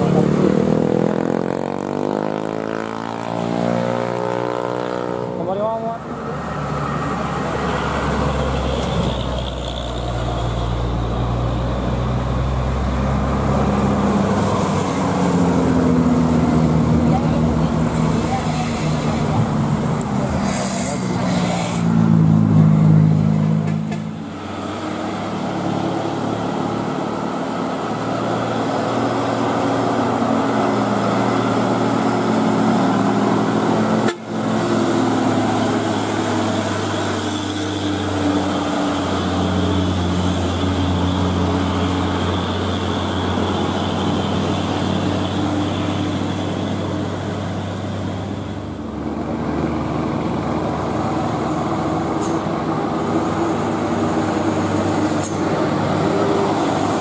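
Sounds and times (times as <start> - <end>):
diesel engines passing: 0.0 - 57.0
traffic noise: 0.0 - 57.0.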